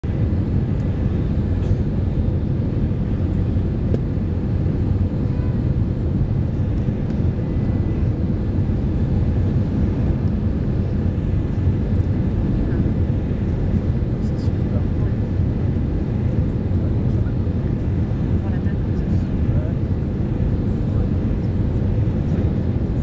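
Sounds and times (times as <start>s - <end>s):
low rumble of jet engines: 0.0s - 23.0s
faint steady whine: 0.1s - 23.0s.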